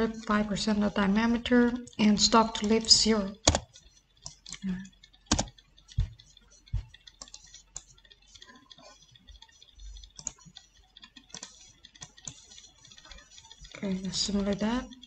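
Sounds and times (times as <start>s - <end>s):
computer keyboard and mouse clicks: 0.0s - 15.0s.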